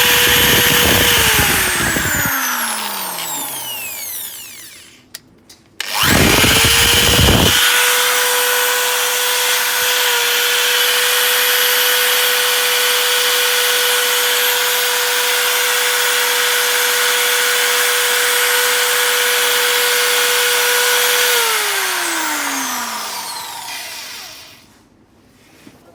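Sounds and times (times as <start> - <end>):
electric drill whining: 0.0 - 5.2, 5.8 - 24.8.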